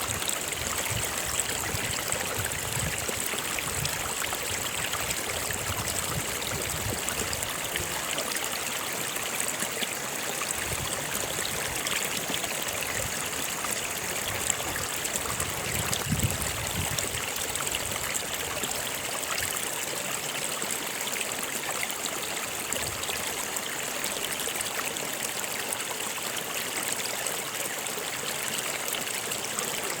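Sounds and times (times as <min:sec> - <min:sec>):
stream trickling over rocks: 0:00.0 - 0:30.0.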